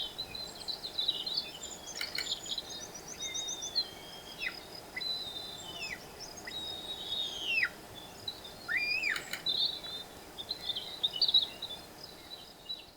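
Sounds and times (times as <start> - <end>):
birds twittering chirps: 0.0 - 12.9
steady outdoor hiss: 0.0 - 12.9.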